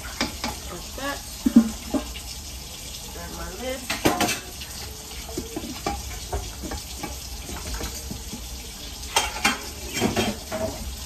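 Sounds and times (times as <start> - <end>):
rice boiling with bubbling hiss: 0.0 - 11.0.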